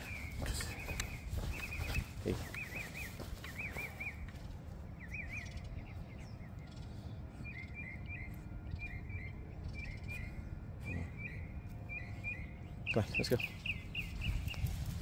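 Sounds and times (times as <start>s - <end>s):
small bird chirping: 0.0s - 4.4s, 5.0s - 15.0s
low outdoor rumble: 0.0s - 15.0s.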